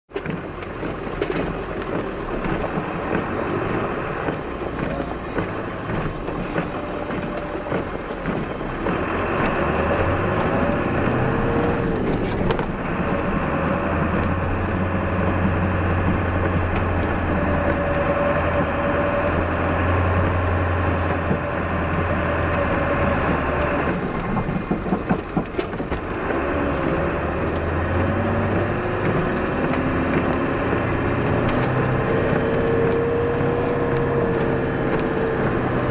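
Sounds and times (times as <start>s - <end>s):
plow truck engine running: 0.1s - 35.9s.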